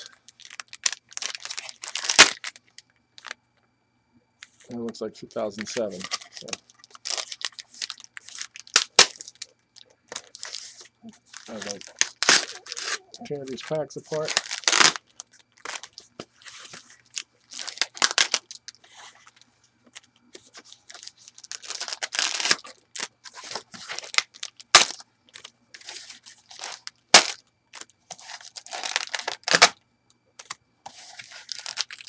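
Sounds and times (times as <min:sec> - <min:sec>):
wrappers tearing and crinkling: 0:00.0 - 0:02.6, 0:05.6 - 0:19.4, 0:20.7 - 0:29.8, 0:30.4 - 0:32.0.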